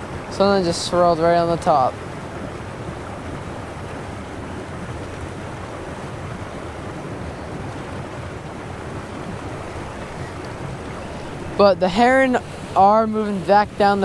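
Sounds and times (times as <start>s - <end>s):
wind on microphone: 2.0s - 14.0s.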